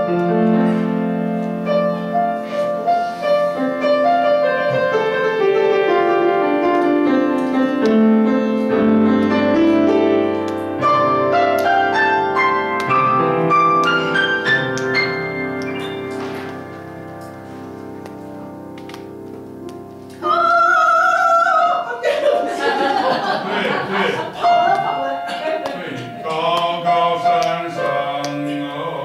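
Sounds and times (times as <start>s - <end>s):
piano playing: 0.0s - 29.0s.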